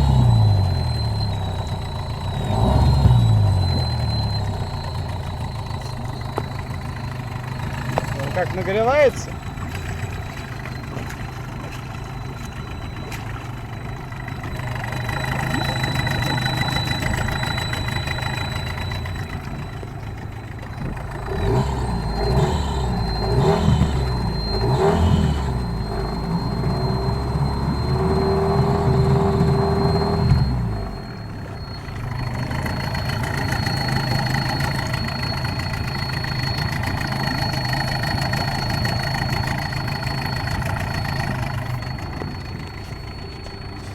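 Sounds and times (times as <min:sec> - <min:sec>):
high-pitched whistle: 0:00.0 - 0:19.8, 0:21.3 - 0:43.9
outboard motor idling and revving: 0:00.0 - 0:43.9.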